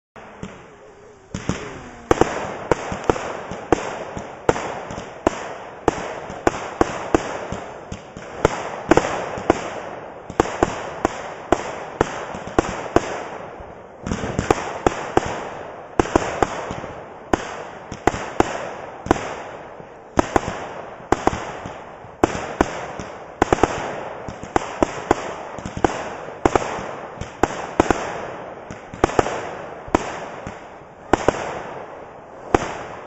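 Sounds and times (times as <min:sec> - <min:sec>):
fireworks bangs: 0:00.2 - 0:33.0.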